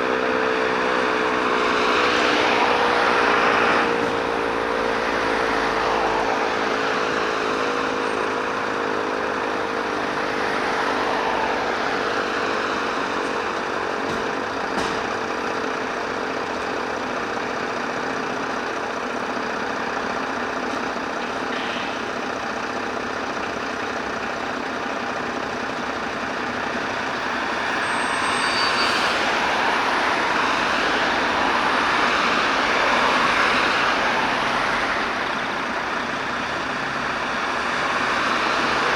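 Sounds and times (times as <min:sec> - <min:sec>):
diesel fire engines running: 0:00.0 - 0:38.9
tyres on road: 0:00.0 - 0:38.9.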